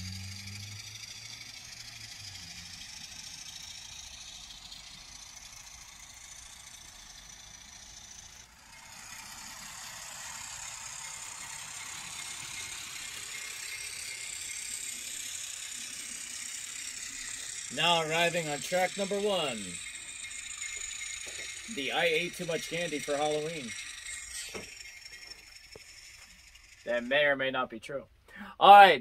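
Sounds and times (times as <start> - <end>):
model trains whirring on rails: 0.0 - 27.5.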